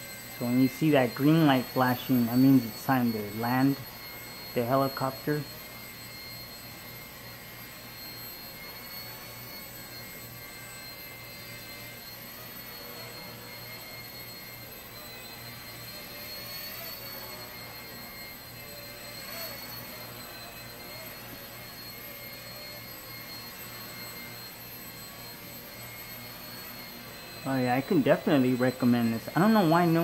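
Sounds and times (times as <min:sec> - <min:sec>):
rc helicopter whine: 0:00.0 - 0:30.0.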